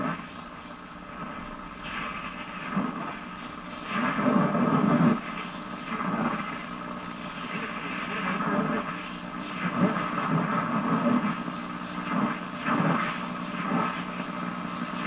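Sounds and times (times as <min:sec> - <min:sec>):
radio hiss: 0:00.0 - 0:15.0
radio broadcast voices: 0:00.1 - 0:15.0.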